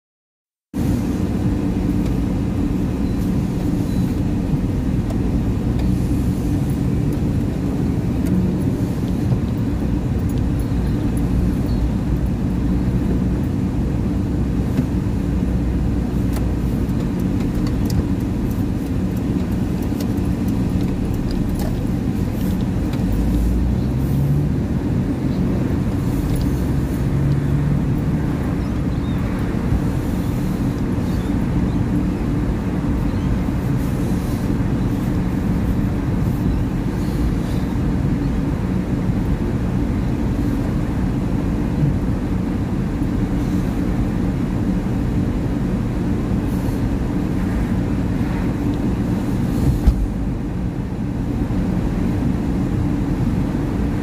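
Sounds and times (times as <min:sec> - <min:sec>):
car engine and road rumble: 0:00.7 - 0:54.0.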